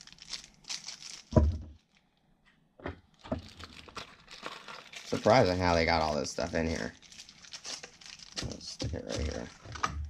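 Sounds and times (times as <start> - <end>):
plastic bag rustling: 0.0 - 2.0, 3.1 - 10.0.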